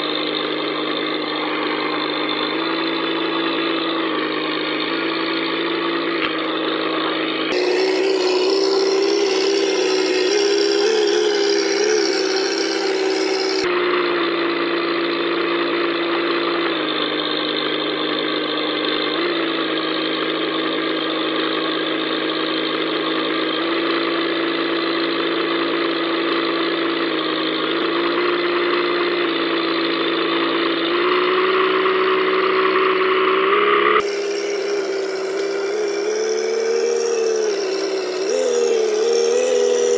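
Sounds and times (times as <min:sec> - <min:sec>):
simulated engine drone: 0:00.0 - 0:24.2, 0:27.5 - 0:39.9.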